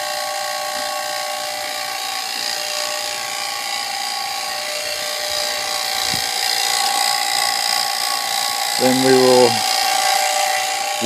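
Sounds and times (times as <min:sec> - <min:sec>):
vacuum pump humming and whining: 0:00.0 - 0:11.0.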